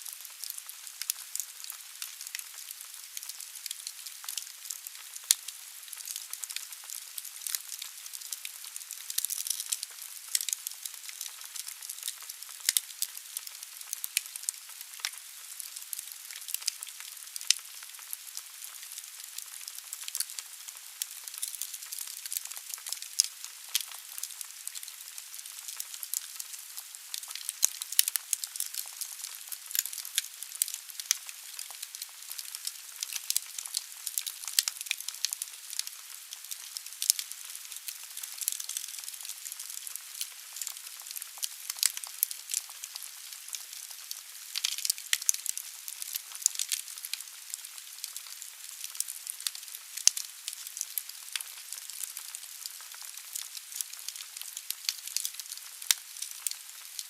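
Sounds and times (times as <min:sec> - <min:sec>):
wood fire crackling and popping: 0:00.2 - 0:57.0.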